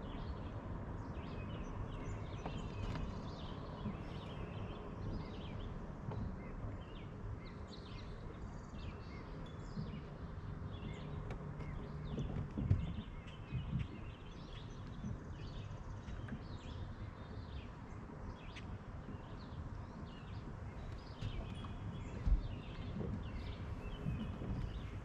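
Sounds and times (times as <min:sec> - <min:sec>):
low steady rumble: 0:00.0 - 0:25.0
songbirds chirping: 0:00.0 - 0:25.0.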